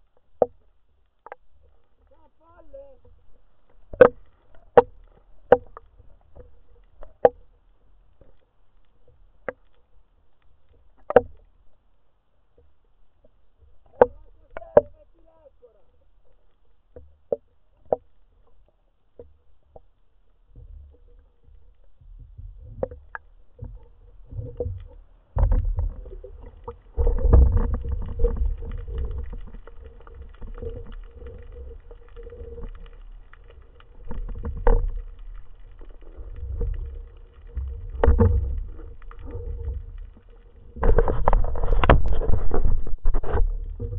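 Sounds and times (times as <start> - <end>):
underwater rumbling of moving water: 0.0 - 43.9.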